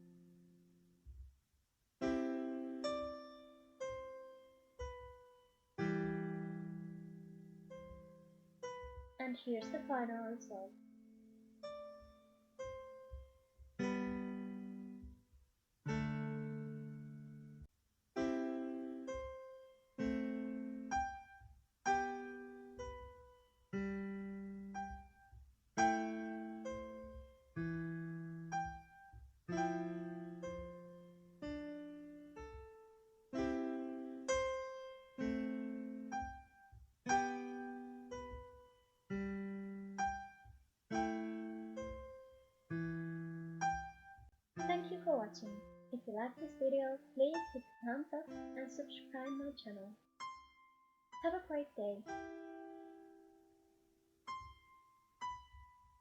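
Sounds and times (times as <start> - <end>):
slow piano melody: 0.0 - 1.2, 2.0 - 56.0.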